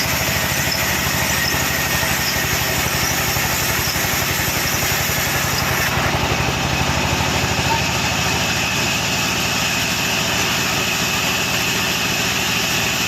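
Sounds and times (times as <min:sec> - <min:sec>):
sawmill machinery throbbing: 0:00.0 - 0:13.0.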